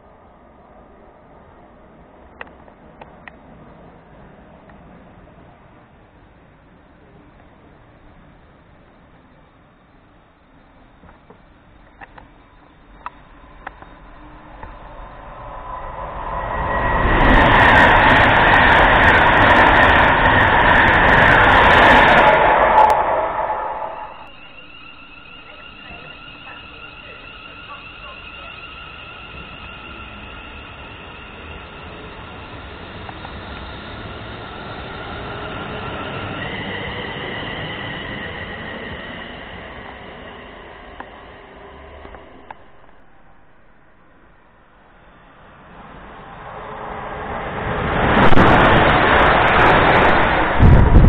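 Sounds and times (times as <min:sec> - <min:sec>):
train passing at speed: 0:00.0 - 0:51.0
electric traction whine: 0:07.6 - 0:51.0.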